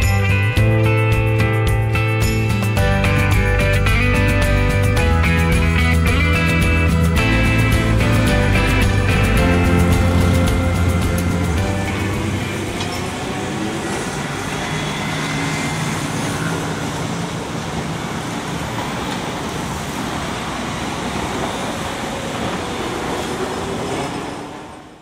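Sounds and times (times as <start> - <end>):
city street traffic: 0.0 - 25.0
streetcars running on rails: 0.0 - 25.0.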